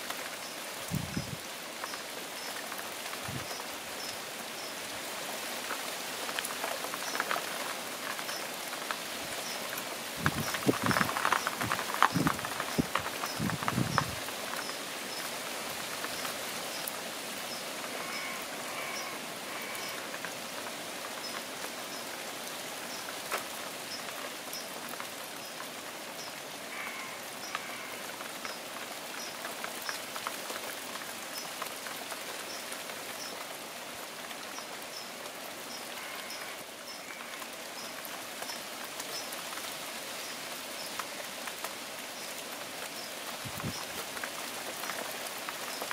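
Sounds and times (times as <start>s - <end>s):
rain pattering on foliage: 0.0s - 45.9s.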